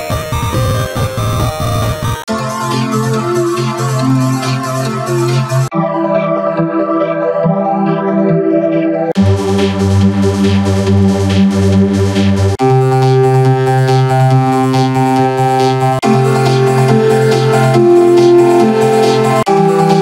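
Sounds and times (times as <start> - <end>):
synth chords: 0.0 - 20.0.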